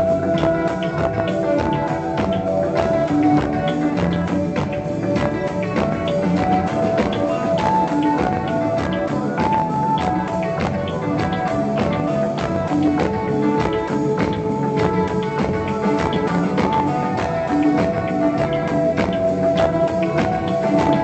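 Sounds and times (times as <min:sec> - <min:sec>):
electric guitars sustained notes: 0:00.0 - 0:21.0
steady drumbeat: 0:00.0 - 0:21.0.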